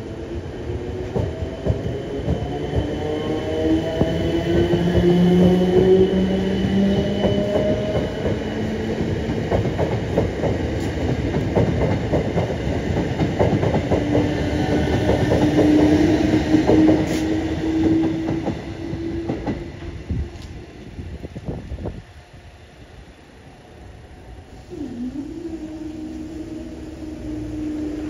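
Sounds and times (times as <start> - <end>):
train whine: 0.0 - 28.0.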